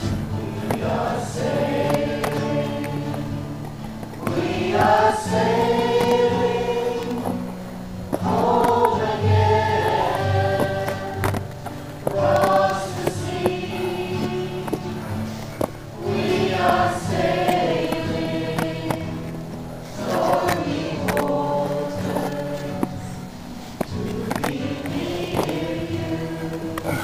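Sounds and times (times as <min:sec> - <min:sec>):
choir singing sustained phrases: 0:00.0 - 0:27.0.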